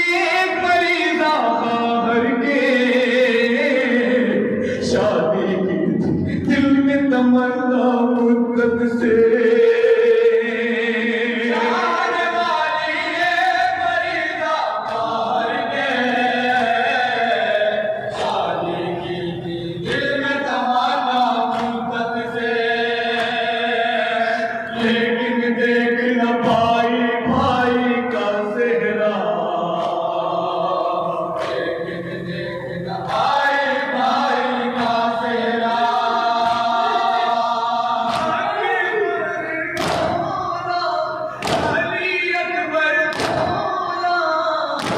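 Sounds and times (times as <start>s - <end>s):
men singing a lament in unison: 0.0s - 44.9s.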